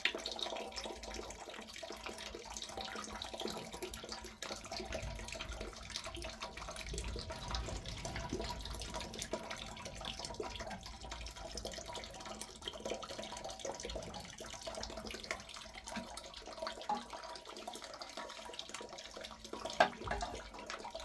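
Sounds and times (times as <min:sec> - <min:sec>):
water drips and splatters: 0:00.0 - 0:21.0
water running and splashing: 0:00.0 - 0:21.0.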